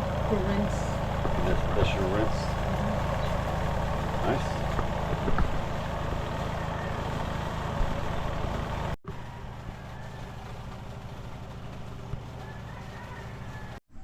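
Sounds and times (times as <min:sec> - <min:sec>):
rush of spinning water: 0:00.0 - 0:13.8
washing machine spin motor hum: 0:00.0 - 0:14.0.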